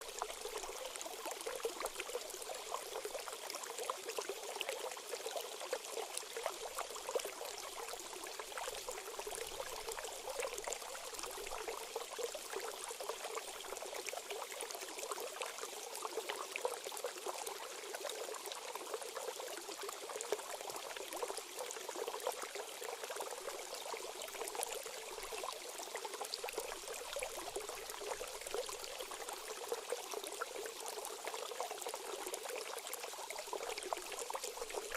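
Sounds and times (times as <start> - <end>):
shallow stream trickling and splashing: 0.0 - 34.9.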